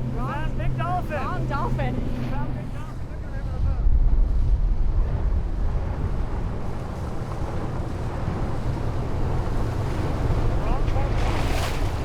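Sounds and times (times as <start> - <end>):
open sea water noise: 0.0 - 12.0
wind buffeting microphone: 0.0 - 12.0.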